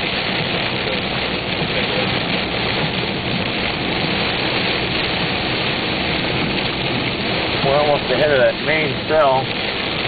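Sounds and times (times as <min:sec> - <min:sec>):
heavy rain on car windshield: 0:00.0 - 0:10.0
tyre spray on flooded road: 0:00.0 - 0:10.0.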